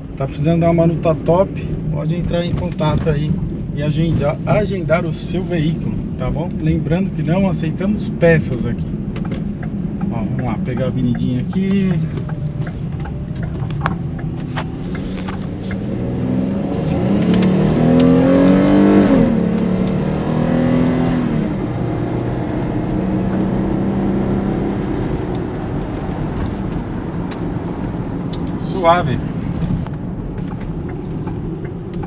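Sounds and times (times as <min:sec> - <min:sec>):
car engine accelerating: 0:00.0 - 0:32.0
road and tyre rumble: 0:00.0 - 0:32.0.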